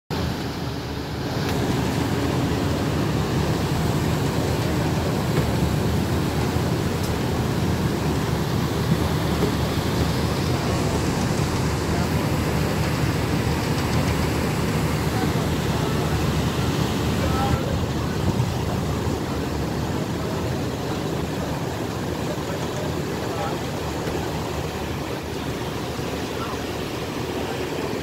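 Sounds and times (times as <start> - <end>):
ferry engines droning: 0.1 - 28.0
wake churning: 0.1 - 28.0.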